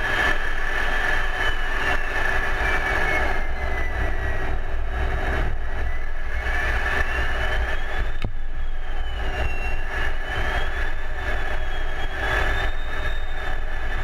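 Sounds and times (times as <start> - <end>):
high whine: 0.0 - 14.0
jet engine and airflow noise: 0.0 - 14.0.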